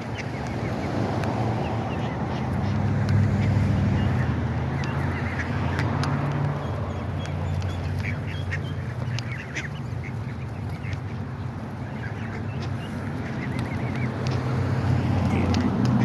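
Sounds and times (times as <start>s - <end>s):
ducks quacking: 0.0s - 16.0s
geese calling: 0.0s - 16.0s.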